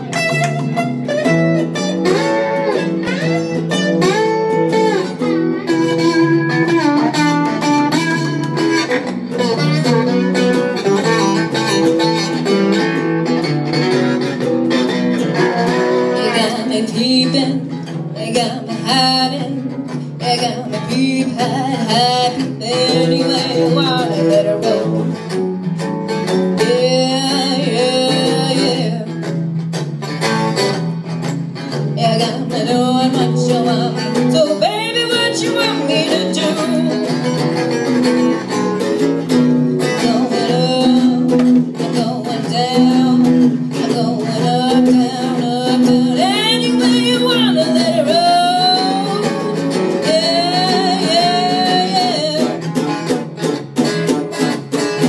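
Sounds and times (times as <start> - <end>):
woman singing: 0.0 - 0.9, 1.6 - 13.5, 14.2 - 29.4, 31.6 - 37.8, 39.6 - 53.1
acoustic guitar: 0.0 - 55.0
electric bass guitar: 0.0 - 55.0.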